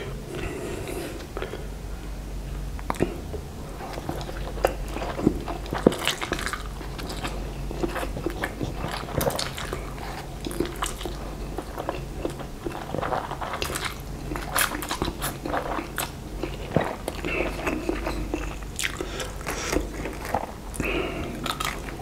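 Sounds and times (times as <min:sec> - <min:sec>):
person chewing: 0:02.8 - 0:22.0.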